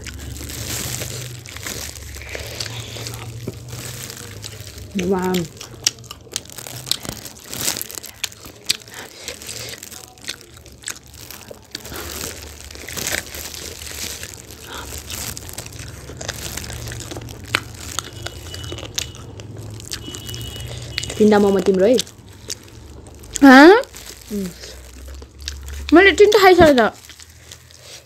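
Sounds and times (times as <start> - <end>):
person chewing: 0.0 - 28.0
plastic gloves crinkling: 0.0 - 28.0.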